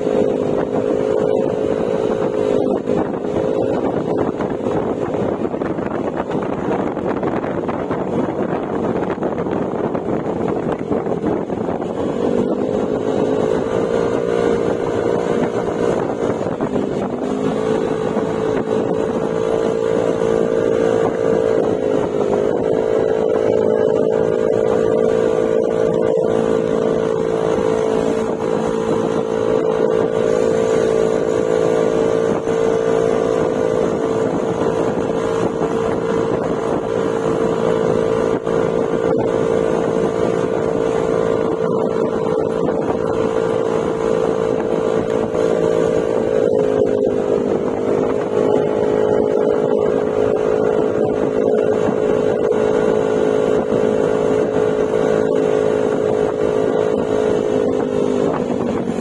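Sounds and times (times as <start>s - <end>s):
scooter engine droning: 0.0s - 59.0s.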